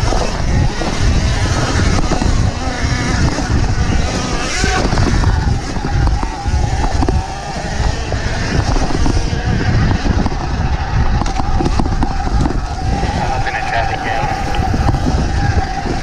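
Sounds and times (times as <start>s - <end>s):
electric motor whine: 0.0s - 16.0s
wind on microphone: 0.0s - 16.0s.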